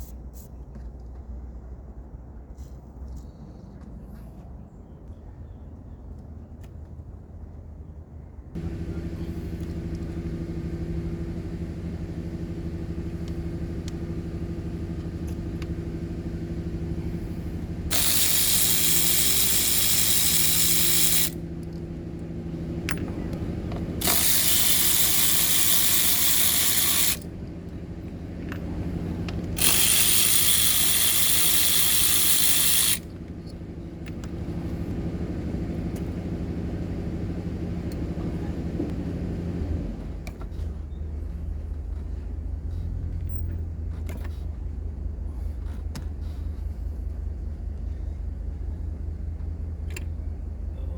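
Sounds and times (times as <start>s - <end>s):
mechanical hum: 8.2s - 50.9s.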